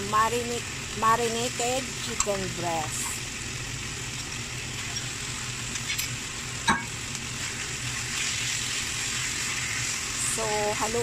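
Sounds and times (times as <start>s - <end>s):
food sizzling in oil in a wok: 0.0s - 11.0s.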